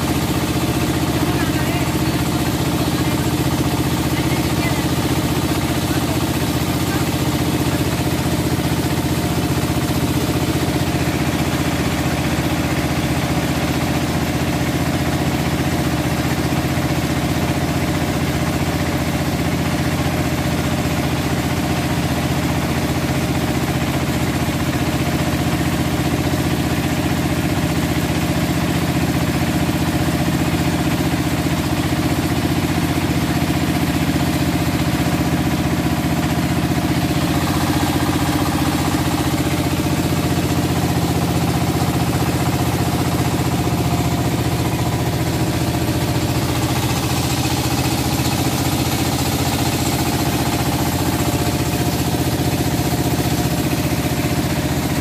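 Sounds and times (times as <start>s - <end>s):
boat engine running: 0.0s - 55.0s
water rushing along hull: 0.0s - 55.0s.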